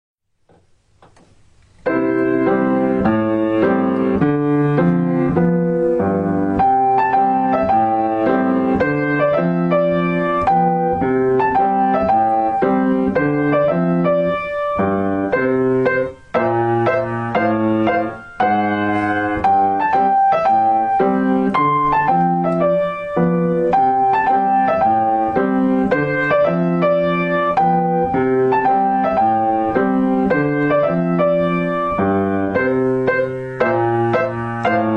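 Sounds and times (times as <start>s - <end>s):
piano music: 1.7s - 34.9s.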